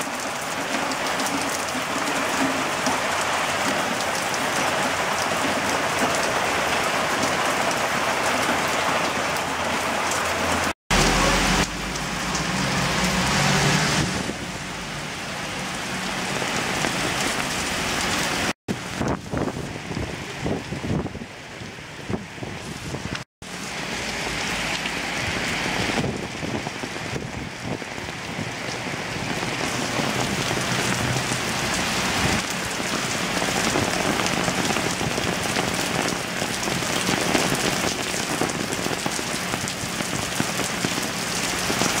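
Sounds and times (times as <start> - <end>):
heavy rain pouring on pavement: 0.0 - 42.0.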